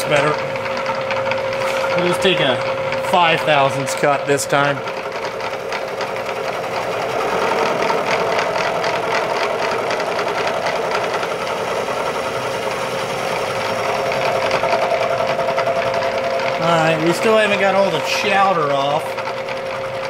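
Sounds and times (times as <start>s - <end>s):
cutter ticking on metal: 0.0s - 20.0s
milling spindle humming: 0.0s - 20.0s.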